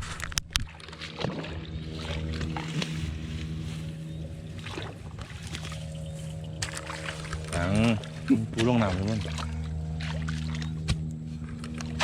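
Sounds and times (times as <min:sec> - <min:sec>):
small engine humming: 0:00.2 - 0:12.0.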